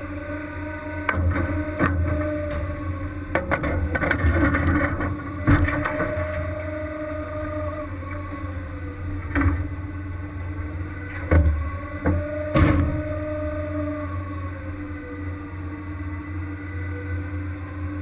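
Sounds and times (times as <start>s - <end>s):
boat engine and machinery humming: 0.0s - 18.0s.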